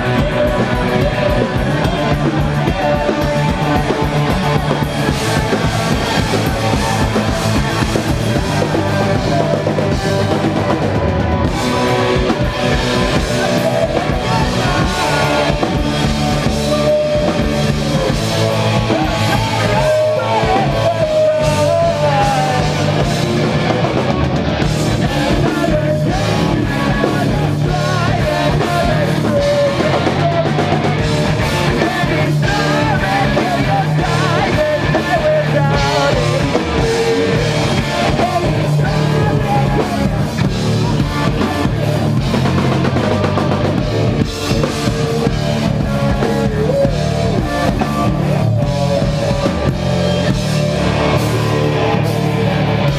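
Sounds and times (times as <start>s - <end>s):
distorted electric guitars: 0.0s - 52.9s
drum kit: 0.0s - 52.9s.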